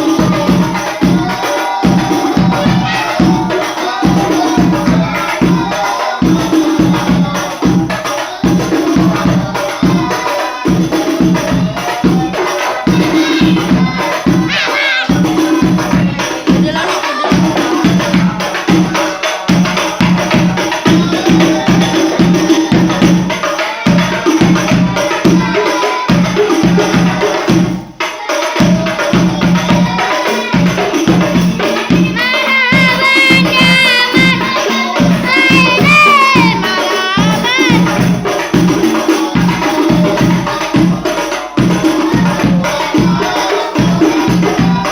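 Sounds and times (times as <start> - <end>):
person singing: 0.0 - 26.6, 28.5 - 44.9
frame drums interlocking rhythm: 0.0 - 44.9
jingling tambourine: 0.0 - 44.9.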